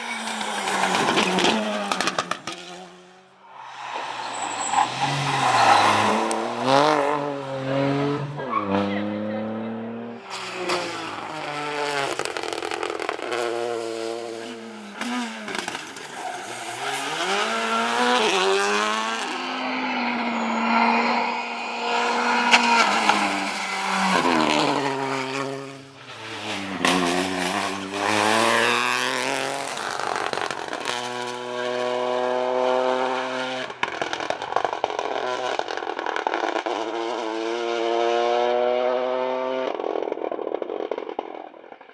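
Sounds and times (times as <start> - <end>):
exhaust cracks: 0.0 - 31.5, 39.7 - 41.9
rally car engines revving: 0.0 - 41.8.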